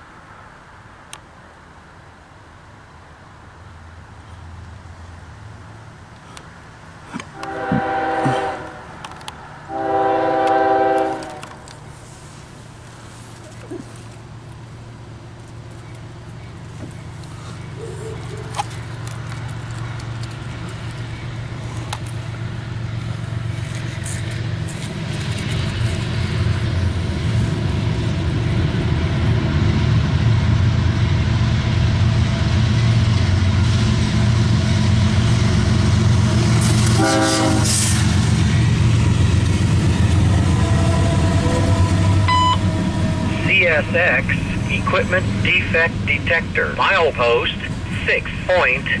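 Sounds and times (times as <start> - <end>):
diesel locomotive engine drone: 0.0 - 49.0.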